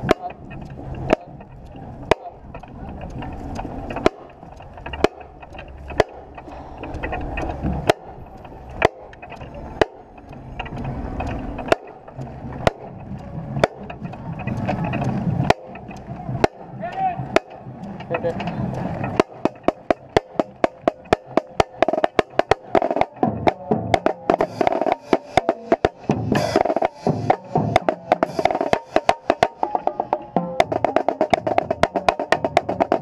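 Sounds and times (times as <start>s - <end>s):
drumstick clicks: 0.0s - 33.0s.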